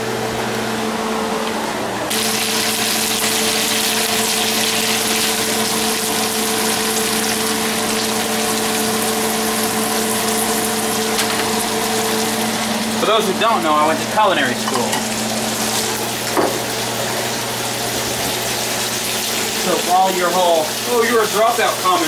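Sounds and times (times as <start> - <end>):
vegetables sizzling in a frying pan: 2.1 - 13.0, 14.6 - 22.0.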